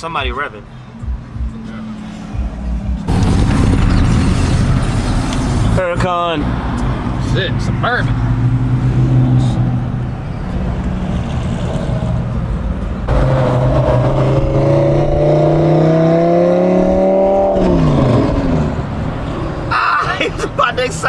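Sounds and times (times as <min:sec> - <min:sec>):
traffic rumble: 0:00.0 - 0:21.0
car engine revving: 0:00.4 - 0:21.0.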